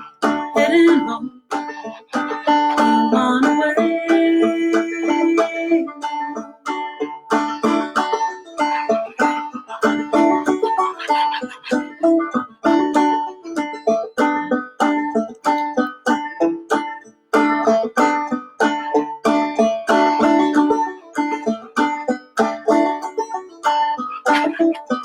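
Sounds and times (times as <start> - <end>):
banjo playing: 0.0 - 25.0.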